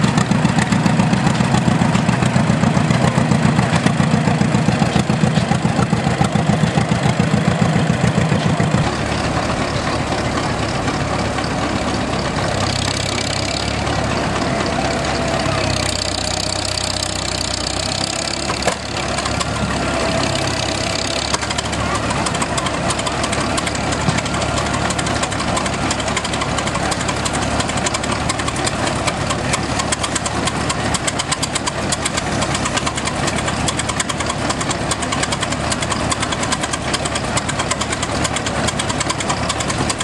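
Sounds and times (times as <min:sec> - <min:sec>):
tractor engine driving past: 0:00.0 - 0:40.0
tractor engines idling: 0:00.0 - 0:40.0.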